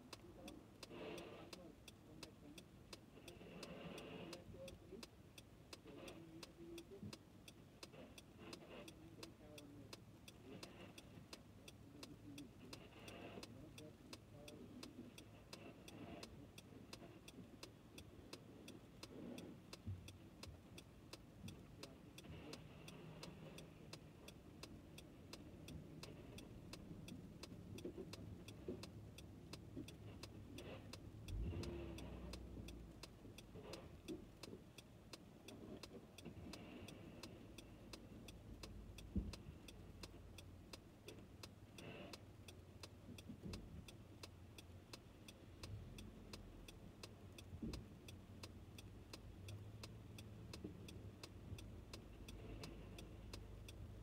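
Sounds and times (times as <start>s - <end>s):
quick even ticking: 0.0s - 54.0s.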